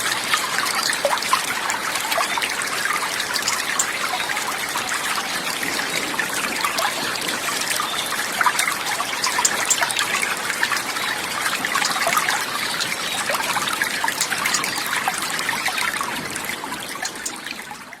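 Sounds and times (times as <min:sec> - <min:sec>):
water trickling and babbling: 0:00.0 - 0:18.0.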